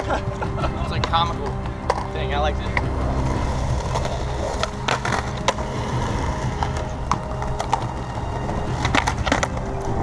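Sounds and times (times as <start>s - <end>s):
skateboard wheels rumbling on concrete: 0.0s - 10.0s
skateboard clacks: 0.9s - 2.9s, 3.5s - 10.0s.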